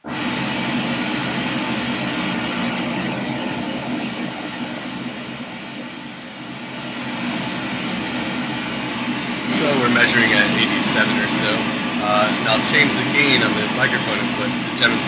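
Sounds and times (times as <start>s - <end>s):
pink noise through speakers: 0.0s - 15.0s.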